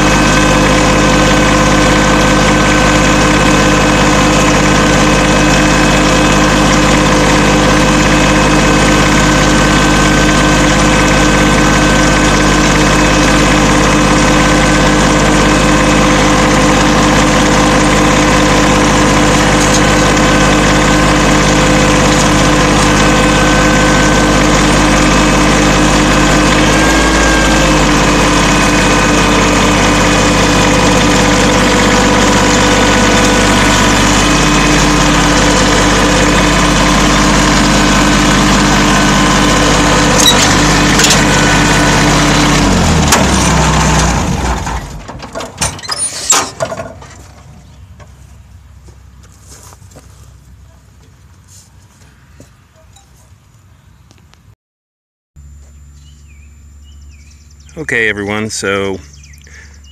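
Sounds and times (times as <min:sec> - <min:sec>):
tractor engine running: 0:00.0 - 0:54.5, 0:55.4 - 0:59.9.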